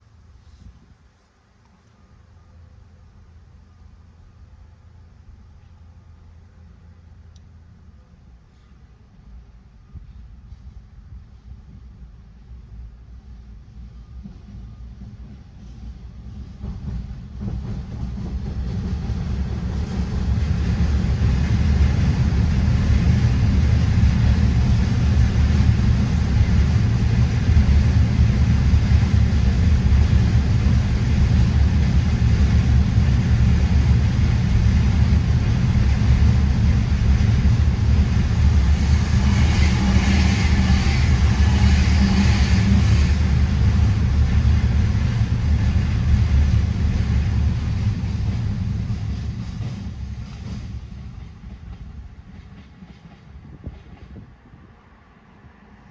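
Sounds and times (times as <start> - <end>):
freight train rumbling past: 2.2 - 55.9
train rattle: 10.0 - 54.9.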